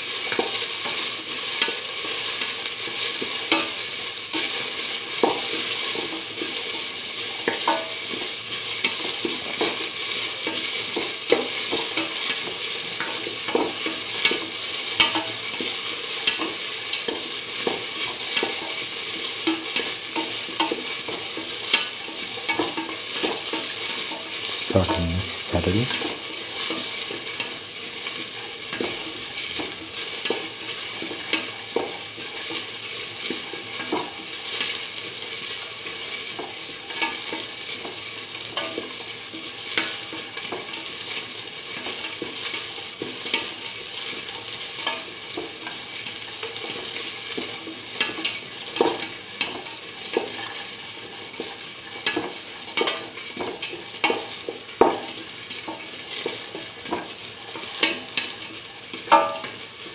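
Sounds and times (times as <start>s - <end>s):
onions sizzling in oil: 0.0s - 59.9s.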